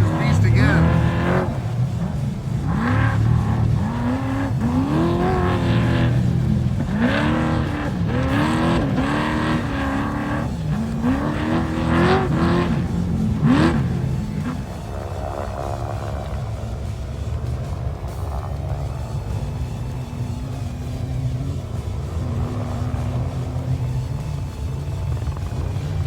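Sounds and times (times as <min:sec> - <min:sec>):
race vehicle engine revving: 0:00.0 - 0:26.0.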